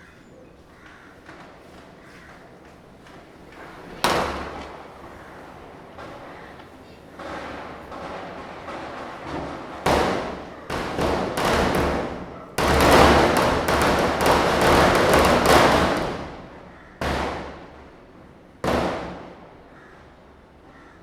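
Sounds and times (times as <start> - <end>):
firecrackers bursting: 1.2 - 20.4.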